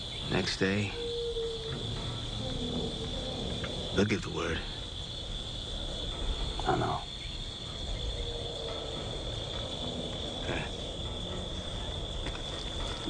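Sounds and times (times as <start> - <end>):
insects chirring: 0.0 - 13.0
low outdoor rumble: 0.0 - 13.0.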